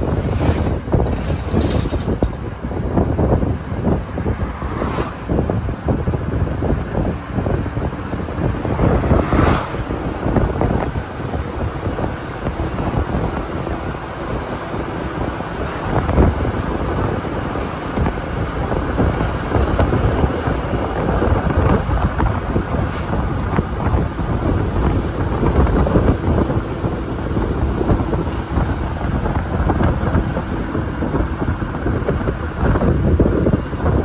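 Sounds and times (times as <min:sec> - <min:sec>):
road noise: 0:00.0 - 0:34.0
wind buffeting microphone: 0:00.0 - 0:34.0.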